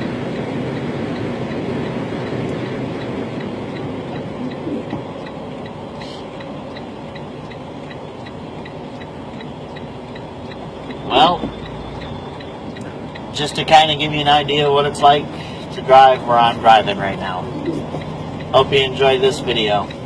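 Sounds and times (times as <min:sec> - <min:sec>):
faint regular ticking: 0:00.0 - 0:20.0
truck engine and road rumble: 0:00.0 - 0:20.0.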